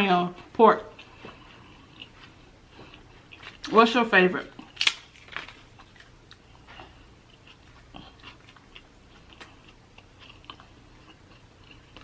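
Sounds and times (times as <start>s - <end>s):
person chewing food: 0.4s - 3.7s, 4.5s - 12.0s.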